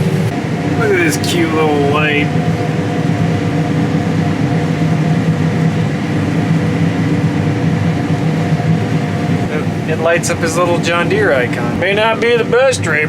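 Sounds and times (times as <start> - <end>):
combine harvester engine drone: 0.0 - 13.0
steady hum tones: 0.0 - 13.0.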